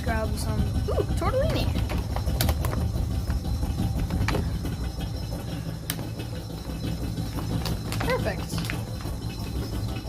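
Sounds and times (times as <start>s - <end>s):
refrigerator humming: 0.0s - 10.0s.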